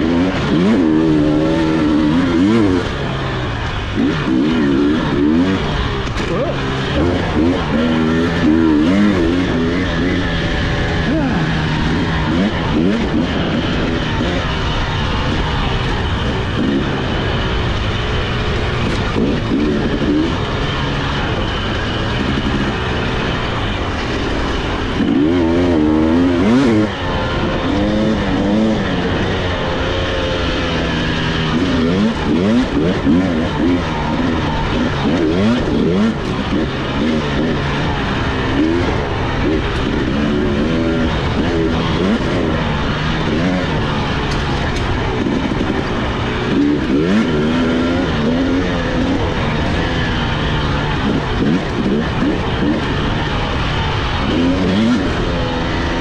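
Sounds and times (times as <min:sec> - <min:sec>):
steady rushing noise: 0:00.0 - 0:56.0
two-stroke dirt bike engine revving: 0:00.0 - 0:56.0.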